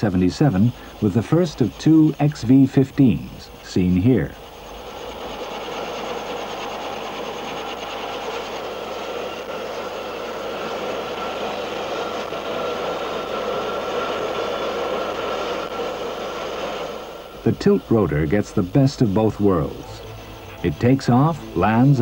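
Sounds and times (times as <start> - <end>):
aircraft engines and rotors running: 0.0 - 22.0.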